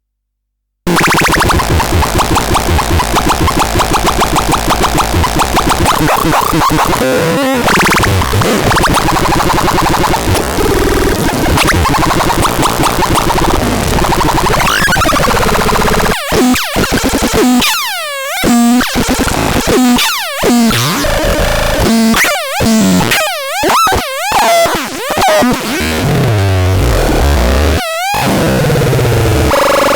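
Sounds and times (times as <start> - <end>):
synthesizer harsh electronic tones: 0.9 - 29.9.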